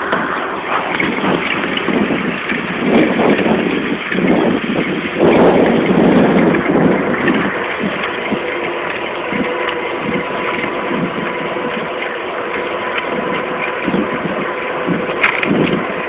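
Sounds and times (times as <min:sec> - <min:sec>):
electric bicycle motor whine: 0:00.0 - 0:16.0
tyre noise on rough path: 0:00.0 - 0:16.0
wind buffeting microphone: 0:00.0 - 0:16.0.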